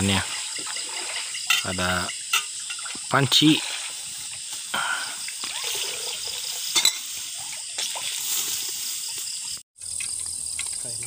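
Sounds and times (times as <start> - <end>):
camping stove hissing: 0.1 - 9.6.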